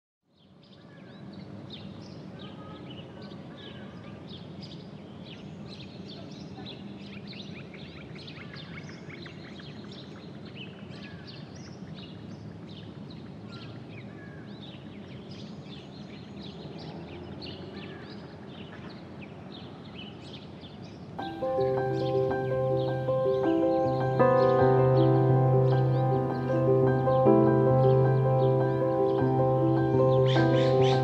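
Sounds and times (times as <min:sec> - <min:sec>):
small birds chirping: 0:00.4 - 0:31.0.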